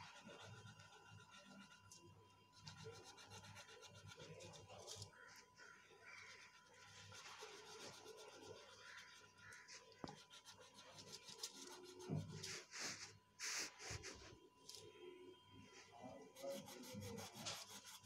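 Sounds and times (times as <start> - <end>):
scratchy rubbing on paper: 0.0 - 14.4, 15.7 - 18.0.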